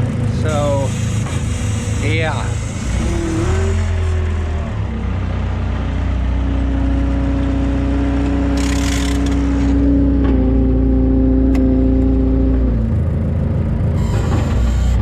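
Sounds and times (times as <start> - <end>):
machine whine: 0.0 - 5.2, 7.5 - 15.0
skid steer engine running: 0.0 - 15.0.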